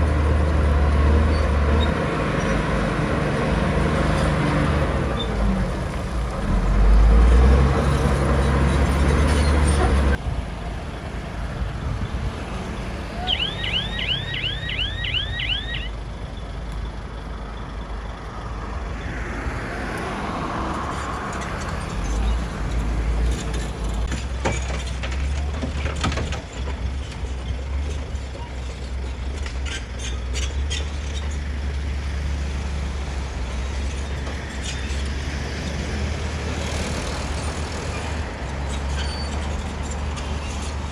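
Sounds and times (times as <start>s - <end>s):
bulldozer diesel engine running: 0.0s - 18.9s, 20.8s - 40.9s.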